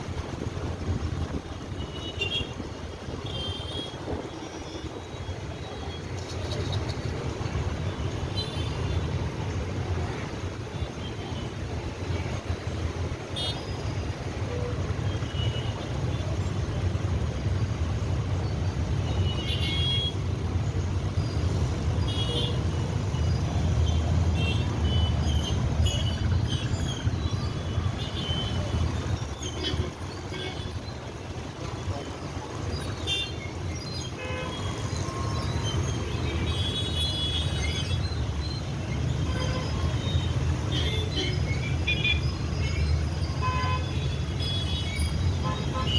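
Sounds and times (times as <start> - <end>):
traffic rumble: 0.0 - 45.9.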